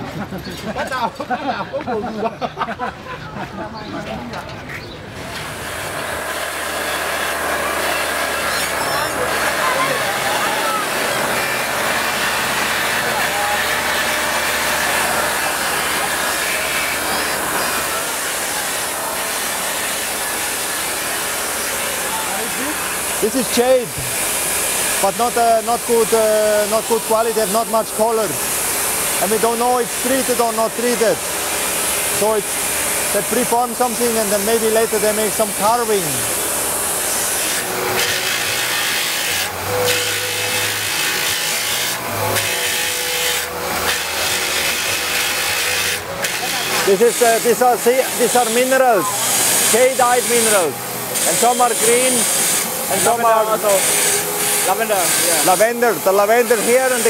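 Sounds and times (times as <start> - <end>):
polishing spindles whirring: 5.1 - 57.0
stone-cutting saws gritty hiss: 5.1 - 57.0.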